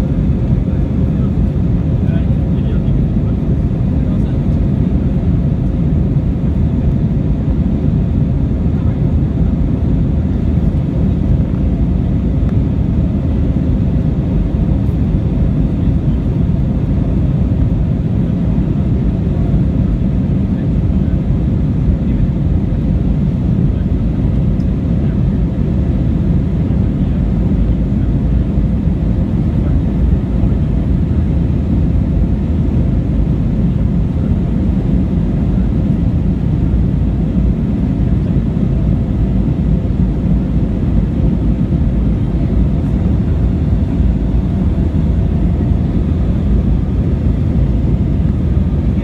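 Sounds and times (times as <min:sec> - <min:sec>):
jet engine cabin rumble: 0:00.0 - 0:49.0.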